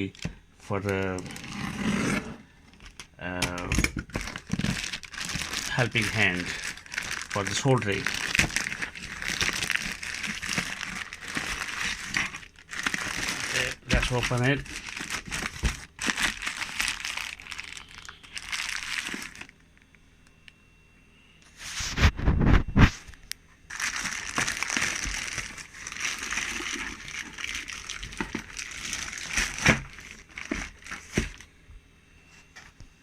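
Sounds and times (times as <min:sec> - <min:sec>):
packaging crinkling and rustling: 0:00.0 - 0:19.9, 0:21.7 - 0:31.5.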